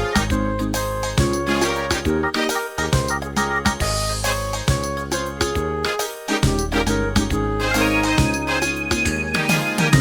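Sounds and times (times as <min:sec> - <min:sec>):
steady beat: 0:00.0 - 0:05.8, 0:06.4 - 0:10.0
bass line: 0:00.0 - 0:10.0
keyboard and synthesizer notes: 0:00.0 - 0:10.0.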